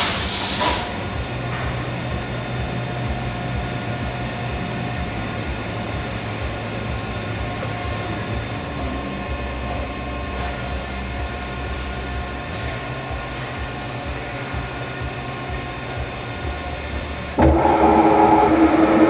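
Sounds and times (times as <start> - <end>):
lathe drive whine: 0.0 - 19.0
machine shop hum: 0.0 - 19.0.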